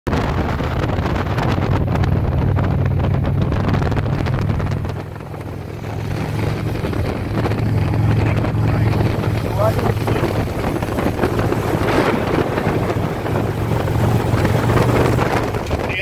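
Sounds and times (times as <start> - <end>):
car driving drone: 0.1 - 16.0
wind buffeting microphone: 0.1 - 16.0.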